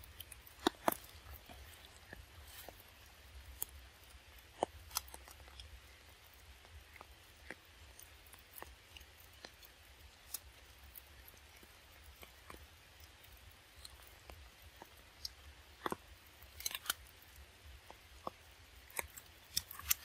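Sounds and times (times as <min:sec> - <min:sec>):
wet chewing clicks: 0:00.0 - 0:20.0.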